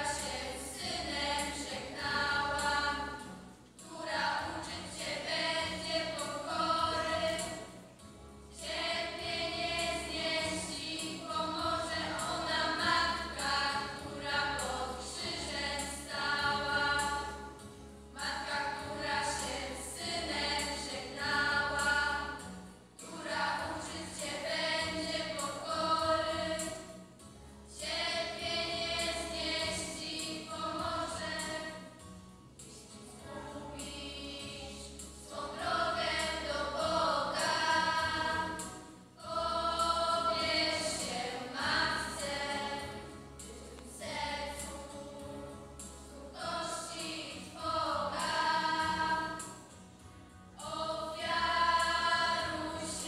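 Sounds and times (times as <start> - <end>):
girls' choir singing: 0.0 - 3.2, 3.8 - 7.8, 8.6 - 17.6, 18.2 - 22.4, 23.0 - 27.0, 27.7 - 31.9, 32.7 - 49.6, 50.6 - 53.0.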